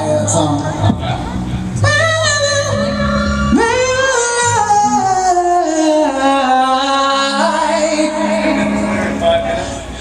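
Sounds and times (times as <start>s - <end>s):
high wordless singing voice: 1.8s - 10.0s.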